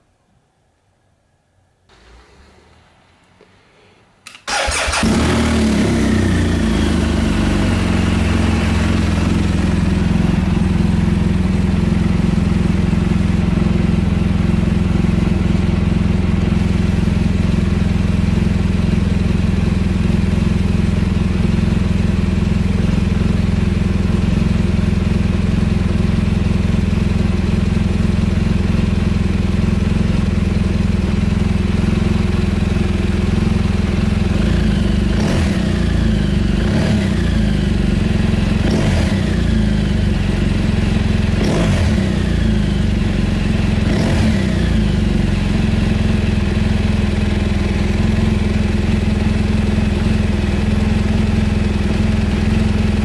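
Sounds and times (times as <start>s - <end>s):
motorcycle engine starting and idling: 4.2s - 53.0s.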